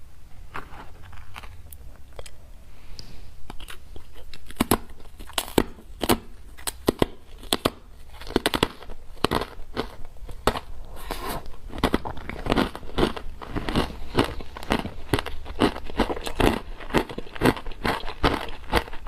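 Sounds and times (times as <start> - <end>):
ice crunching between teeth: 3.5 - 19.0.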